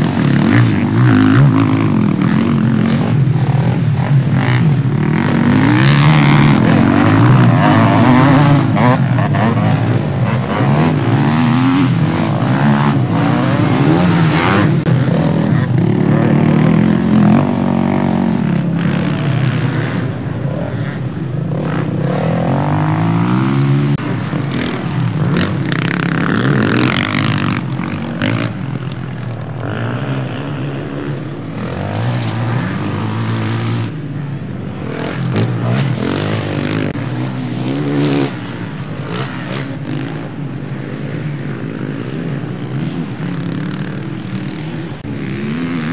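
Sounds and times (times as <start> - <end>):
motorcycles revving: 0.0 - 45.9.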